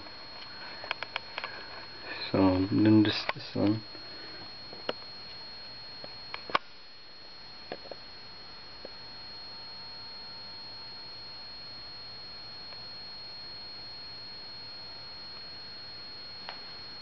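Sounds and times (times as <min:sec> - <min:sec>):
faint low hum: 0:00.0 - 0:17.0
thin high-pitched whine: 0:00.0 - 0:17.0.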